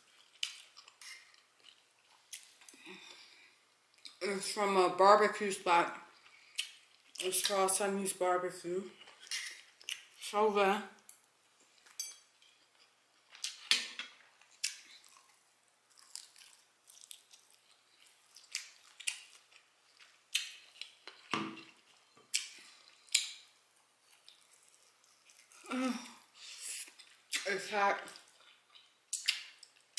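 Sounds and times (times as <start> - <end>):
chewing and lip-smacking: 0.0 - 3.1, 6.2 - 7.3, 9.0 - 10.2, 11.1 - 29.9.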